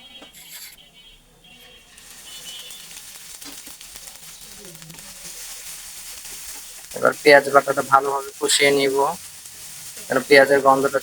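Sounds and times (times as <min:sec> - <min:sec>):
onions sizzling in oil: 0:01.9 - 0:11.0.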